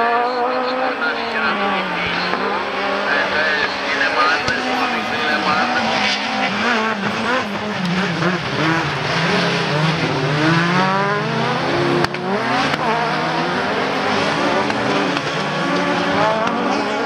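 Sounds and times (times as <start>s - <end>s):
racing car engines revving hard: 0.0s - 17.0s.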